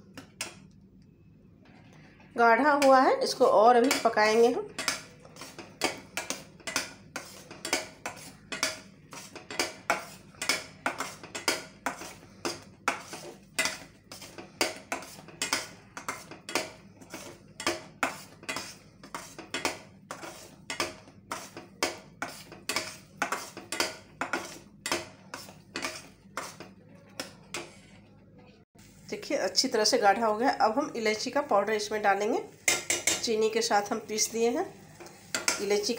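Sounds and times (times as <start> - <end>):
metal spatula scraping steel pan: 2.6 - 28.1, 32.4 - 35.9.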